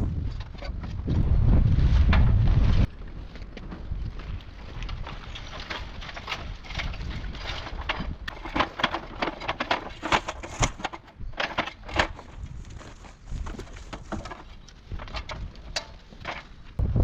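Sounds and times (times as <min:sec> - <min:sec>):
wind rumble on microphone: 0:00.0 - 0:17.0
branches rustling and snapping: 0:01.7 - 0:16.7.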